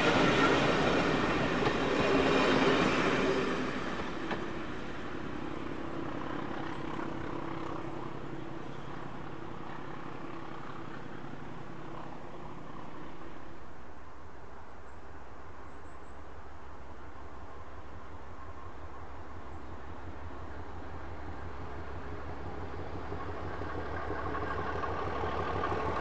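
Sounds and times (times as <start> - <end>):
diesel train engine and rail noise: 0.0 - 26.0.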